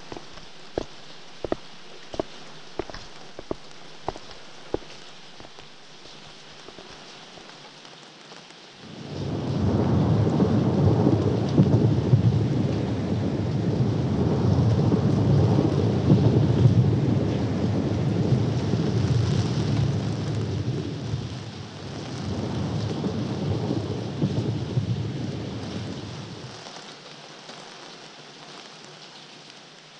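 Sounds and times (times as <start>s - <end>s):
rain: 0.0s - 29.9s.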